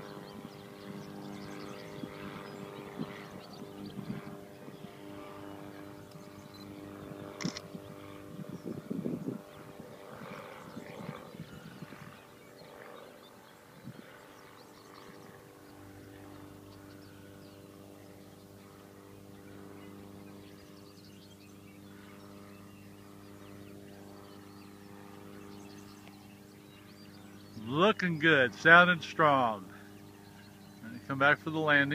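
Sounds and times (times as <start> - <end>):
distant light aircraft engine drone: 0.0 - 31.9.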